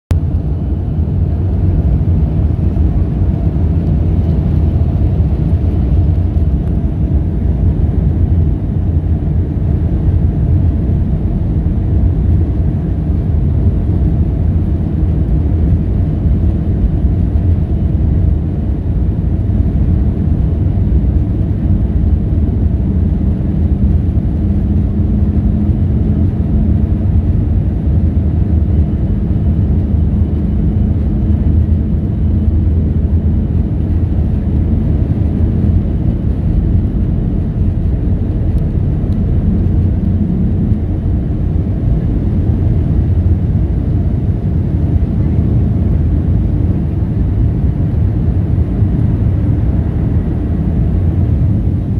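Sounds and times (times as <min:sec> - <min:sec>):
jet engines rumbling: 0:00.1 - 0:51.9.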